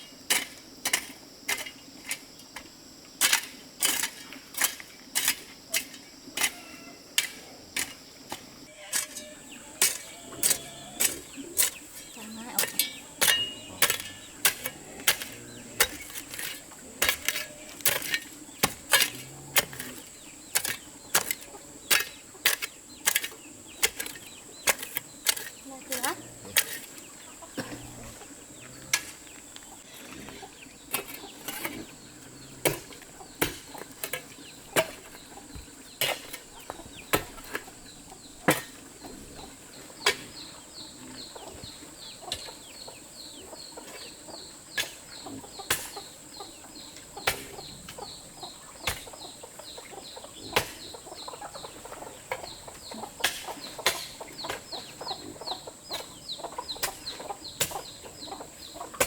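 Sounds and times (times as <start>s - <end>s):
chickens clucking: 5.6s - 59.0s
chicks peeping: 8.8s - 59.0s.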